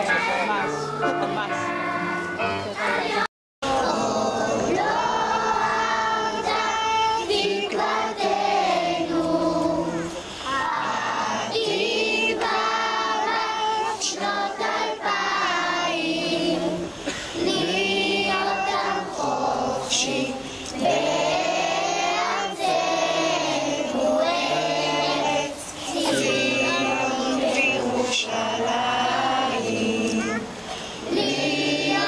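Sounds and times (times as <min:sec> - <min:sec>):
children singing in unison: 0:00.0 - 0:32.0.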